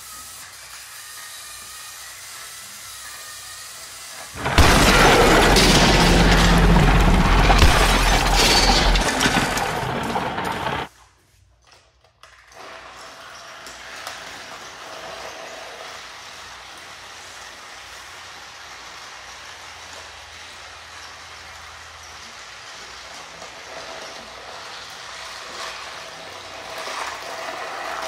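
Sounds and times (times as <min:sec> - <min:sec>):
toy trains running on track: 0:00.0 - 0:07.5, 0:12.2 - 0:28.0.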